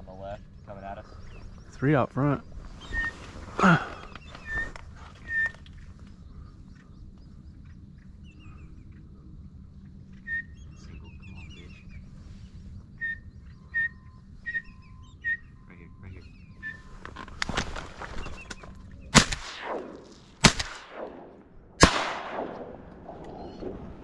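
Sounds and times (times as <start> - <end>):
faint bird chirps: 0.0 - 19.1, 23.1 - 24.0.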